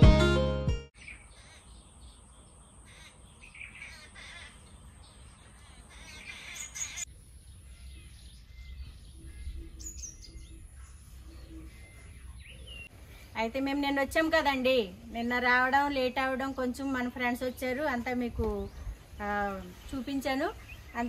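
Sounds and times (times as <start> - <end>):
birds chirping and calling: 1.0 - 14.5, 15.2 - 21.0.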